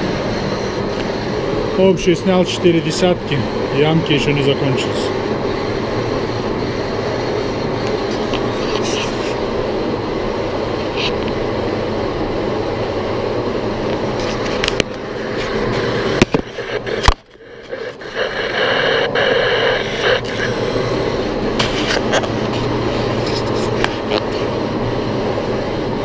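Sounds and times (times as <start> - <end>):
boring machine running: 0.0 - 26.0.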